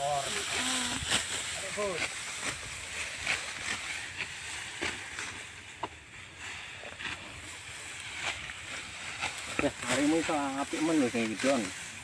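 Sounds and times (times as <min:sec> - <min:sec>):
rice stalks rustling: 0:00.0 - 0:12.0.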